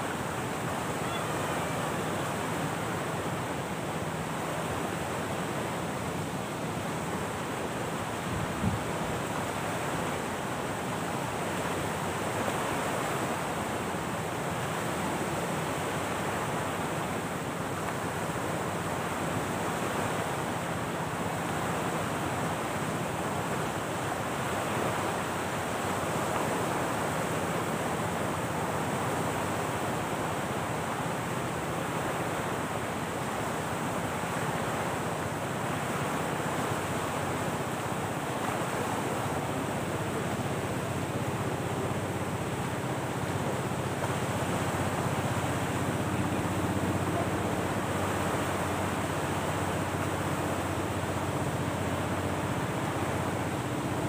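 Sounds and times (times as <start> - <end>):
waves washing on shore: 0.0 - 54.0
wind: 0.0 - 54.0.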